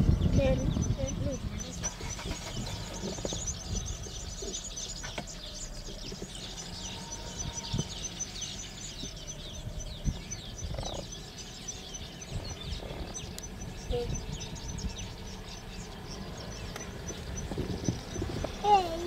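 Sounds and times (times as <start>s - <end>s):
low rumble: 0.0s - 19.0s
small birds chirping: 0.0s - 19.0s.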